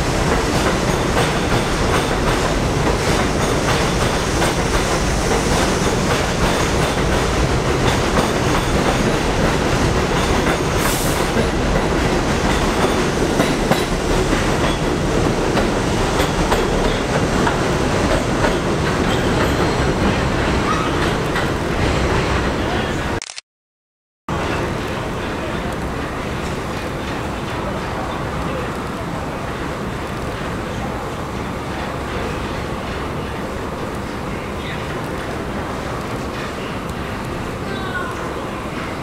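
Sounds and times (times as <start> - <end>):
clickety-clack over rail joints: 0.0 - 22.6, 24.4 - 38.0
train wheels rumbling on rail: 0.0 - 23.1, 24.3 - 39.0.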